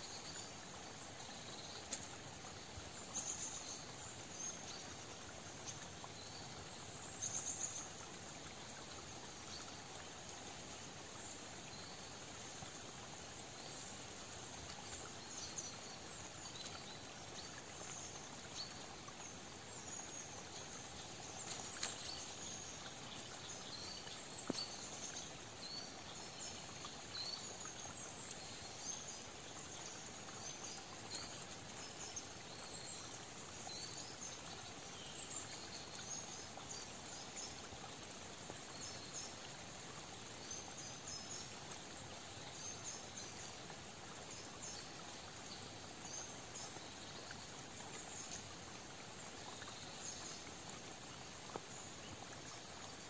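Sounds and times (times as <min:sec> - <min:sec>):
soft steady hiss: 0:00.0 - 0:53.0.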